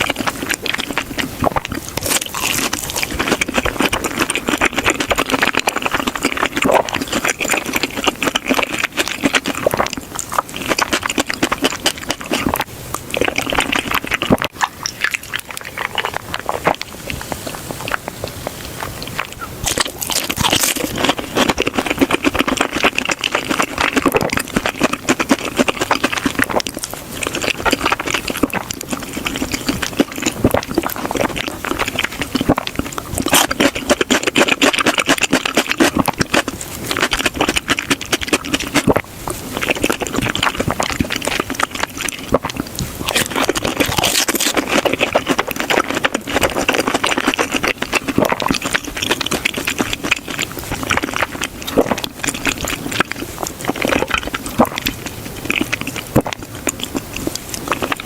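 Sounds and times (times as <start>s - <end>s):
chewing crispy fried food: 0.0s - 58.0s.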